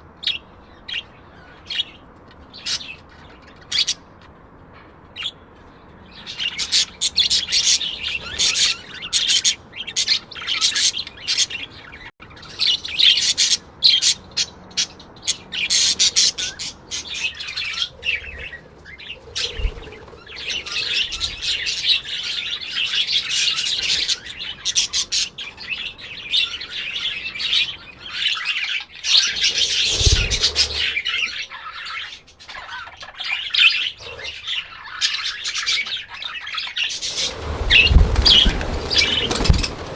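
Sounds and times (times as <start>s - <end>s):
parrots chirping and chattering: 0.2s - 39.9s.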